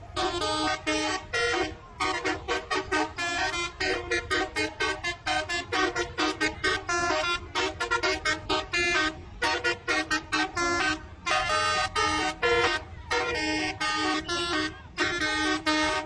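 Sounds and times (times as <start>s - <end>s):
bus horns playing a tune: 0.0s - 16.0s
low engine and traffic rumble: 0.0s - 16.0s.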